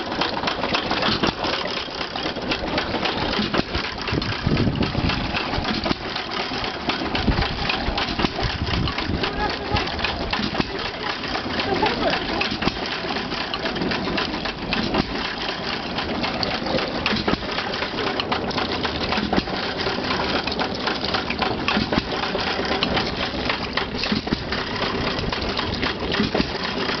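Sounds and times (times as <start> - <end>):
piston water pump clicking: 0.0 - 27.0
stationary engine running: 0.0 - 27.0.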